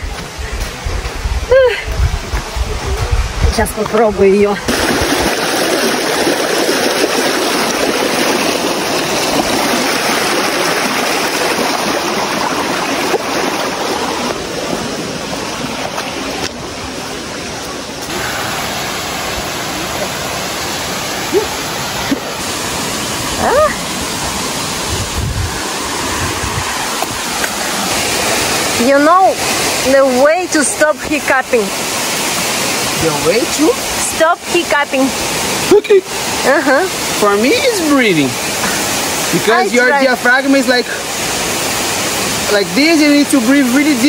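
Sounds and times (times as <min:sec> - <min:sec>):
stream rushing over rocks: 0:00.0 - 0:44.0.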